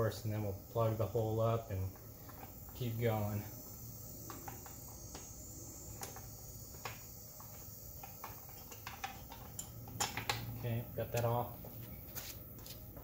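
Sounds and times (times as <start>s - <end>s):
steady faint hiss: 0.0s - 13.0s.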